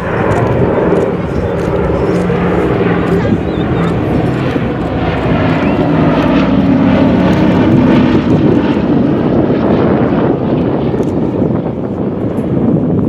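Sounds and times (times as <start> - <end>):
propeller airplane engine drone: 0.0 - 13.0.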